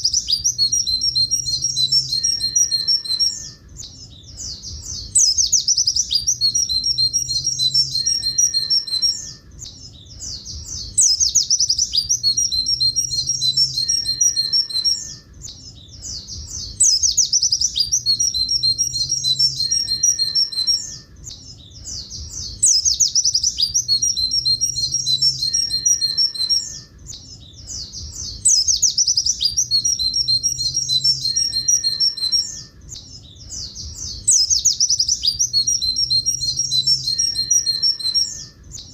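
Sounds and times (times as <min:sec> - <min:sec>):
bird singing high trills: 0:00.0 - 0:38.9.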